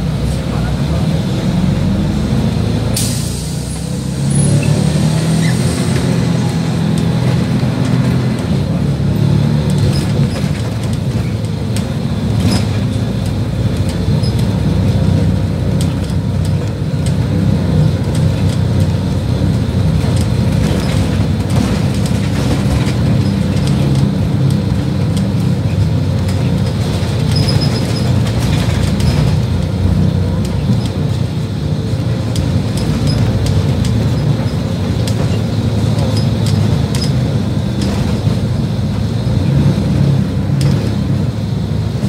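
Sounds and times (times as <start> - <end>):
bus engine drone: 0.0 - 42.0
road rumble: 0.0 - 42.0.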